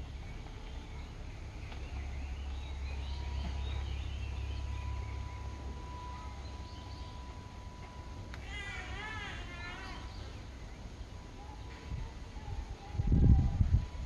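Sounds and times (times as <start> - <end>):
birds chirping: 0.0 - 13.2
low steady rumble: 0.0 - 14.0.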